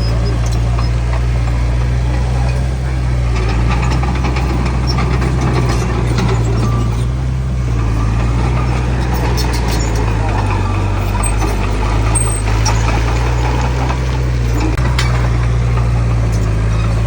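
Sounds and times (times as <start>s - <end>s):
heavy diesel engine humming: 0.0s - 17.0s.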